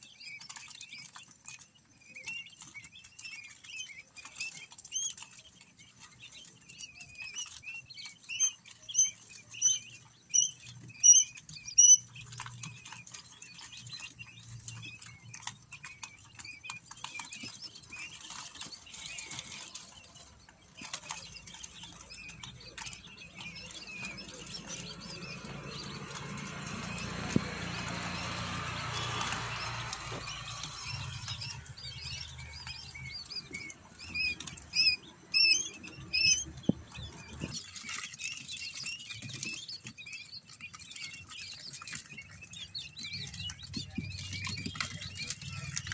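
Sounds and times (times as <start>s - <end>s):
chicks peeping and chirping: 0.0s - 45.9s.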